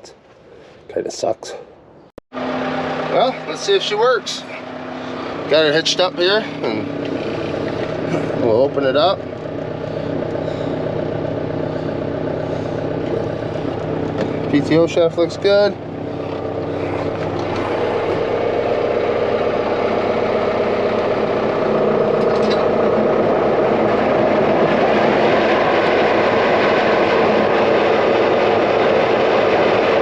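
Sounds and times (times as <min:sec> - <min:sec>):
mower running: 0:02.4 - 0:30.0
tractor engine running: 0:02.4 - 0:30.0.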